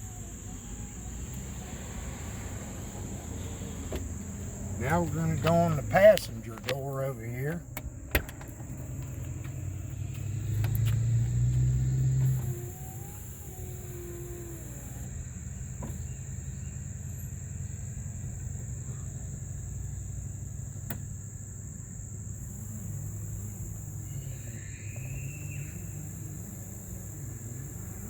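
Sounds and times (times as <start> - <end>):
high-pitched insect chorus: 0.0 - 28.0
low steady rumble: 0.0 - 28.0.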